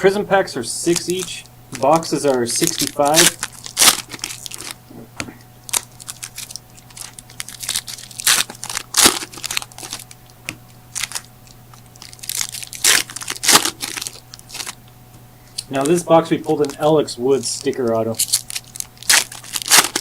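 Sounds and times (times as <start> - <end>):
faint low hum: 0.0 - 20.0
wrappers tearing and crinkling: 0.8 - 4.9, 5.6 - 14.9, 15.6 - 20.0
cards rustling: 0.8 - 14.8, 15.5 - 20.0.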